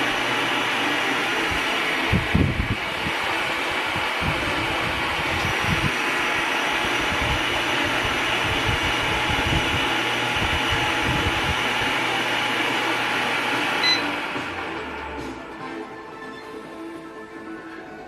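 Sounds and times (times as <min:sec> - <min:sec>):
fan blowing air: 0:00.0 - 0:18.0.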